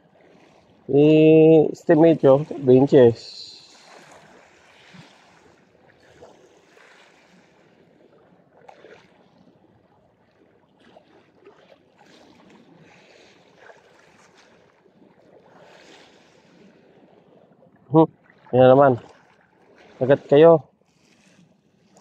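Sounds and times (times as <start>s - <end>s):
small waves lapping: 0.0s - 22.0s
wind: 0.0s - 22.0s.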